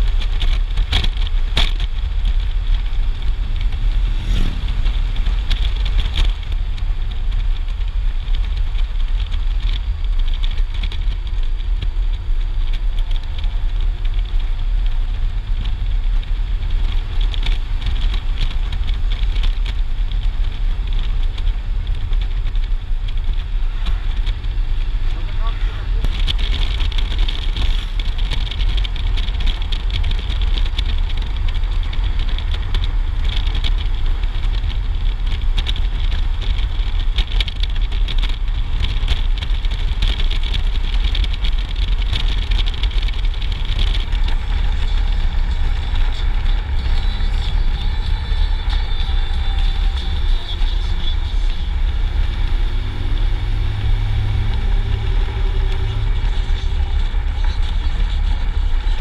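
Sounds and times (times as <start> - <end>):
motorcycle engine: 0.0 - 59.0
tyre noise: 0.0 - 59.0
wind rush and buffeting: 0.0 - 59.0.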